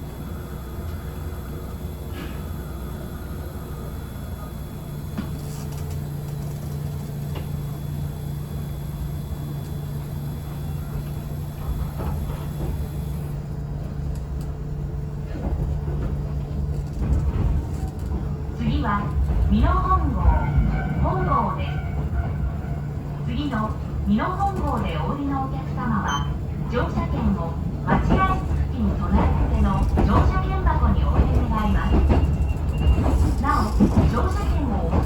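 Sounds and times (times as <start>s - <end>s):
train motor hum: 0.0s - 35.0s
train wheels rumbling: 0.0s - 35.0s.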